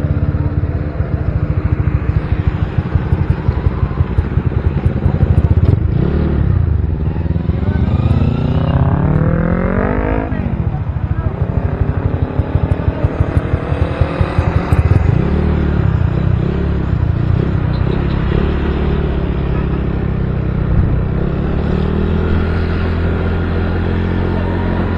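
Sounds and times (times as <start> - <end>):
motorcycle engine running: 0.0 - 24.9
wind and road noise: 0.0 - 24.9.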